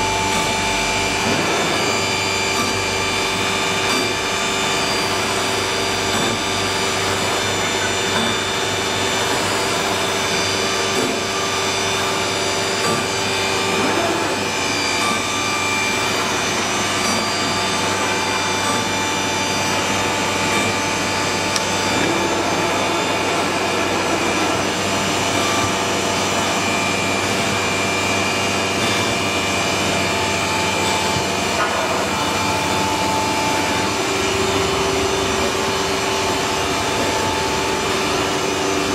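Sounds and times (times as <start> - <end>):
cnc router whine: 0.0 - 38.9.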